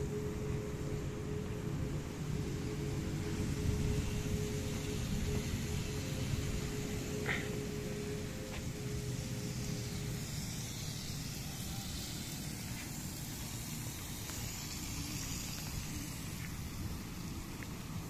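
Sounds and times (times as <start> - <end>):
hiss: 0.0 - 18.0.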